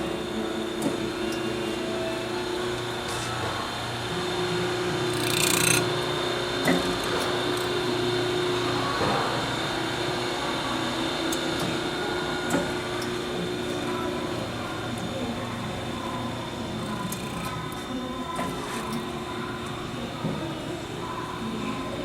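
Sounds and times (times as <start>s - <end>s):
grinding machine humming: 0.0s - 22.0s.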